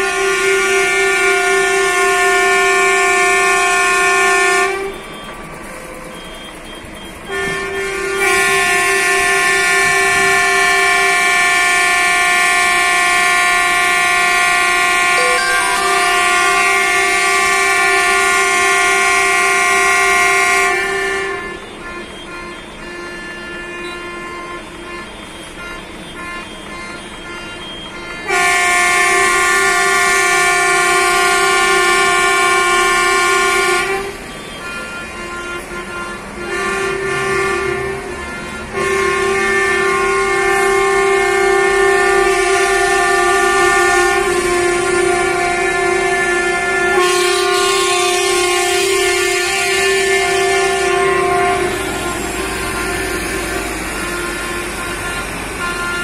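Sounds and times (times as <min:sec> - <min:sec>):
coach air horn blasts: 0:00.0 - 0:05.1, 0:07.3 - 0:56.0
faint honking: 0:00.0 - 0:56.0.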